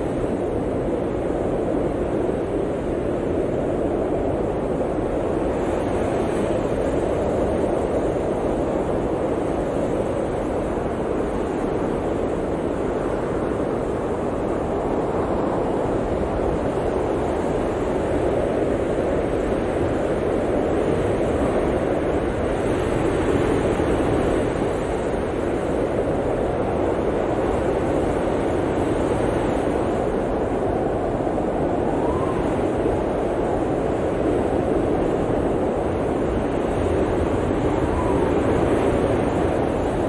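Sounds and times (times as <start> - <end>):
blizzard wind blowing: 0.0 - 40.0.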